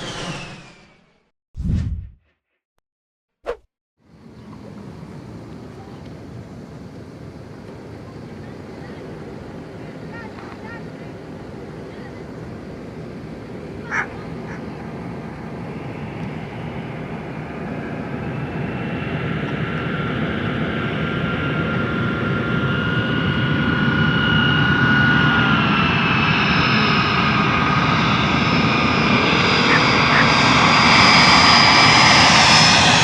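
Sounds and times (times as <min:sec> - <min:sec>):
jet airliner engine whine: 0:04.1 - 0:33.0.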